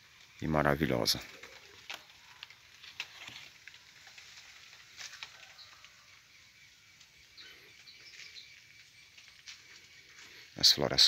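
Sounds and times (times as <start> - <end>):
faint bird chirps: 0.3 - 11.0.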